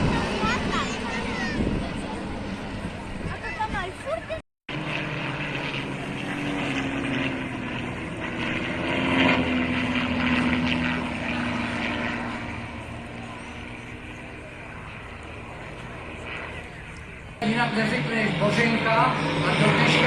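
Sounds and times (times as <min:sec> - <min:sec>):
propeller airplane engine passing: 0:00.0 - 0:20.0.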